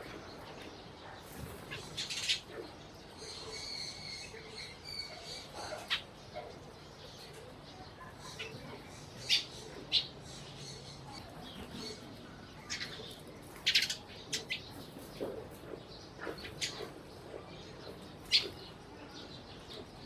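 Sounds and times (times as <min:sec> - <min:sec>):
sparrows chirping: 0:00.0 - 0:20.0.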